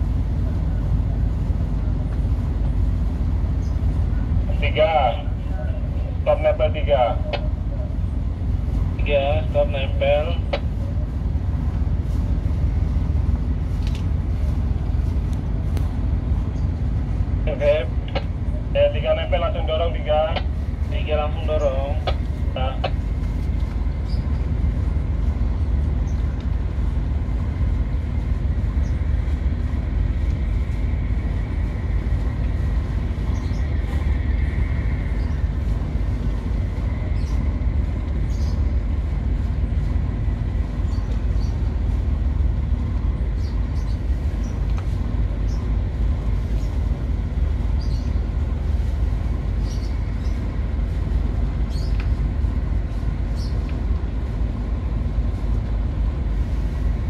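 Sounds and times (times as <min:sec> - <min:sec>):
ship engines rumbling: 0:00.0 - 0:57.0.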